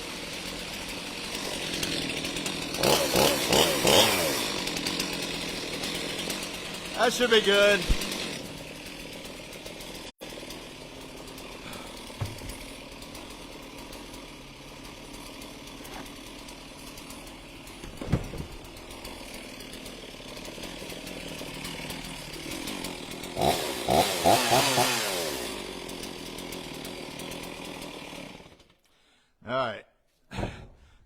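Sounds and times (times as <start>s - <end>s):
chainsaws idling and revving: 0.0s - 29.1s.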